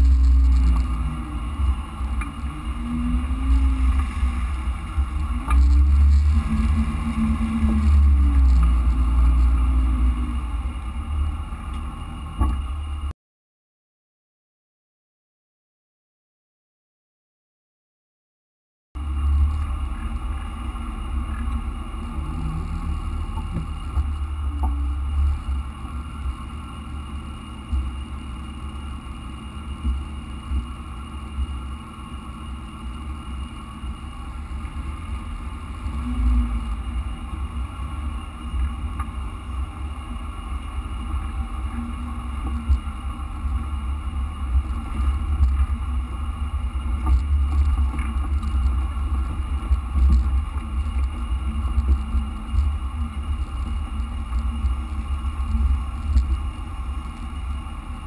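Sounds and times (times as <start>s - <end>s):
car engine deep rumble: 0.0s - 13.1s, 19.0s - 58.0s.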